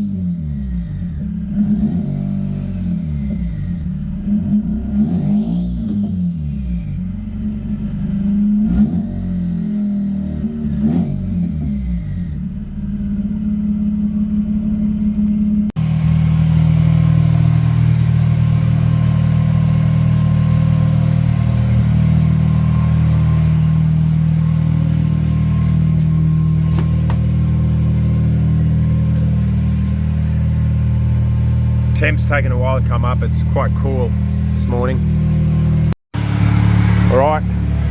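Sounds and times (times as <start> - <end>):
rotary engine revving and idling: 0.0 - 37.9.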